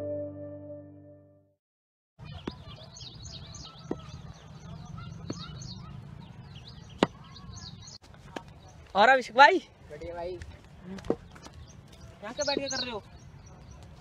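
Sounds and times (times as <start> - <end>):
small birds chirping: 2.2 - 14.0.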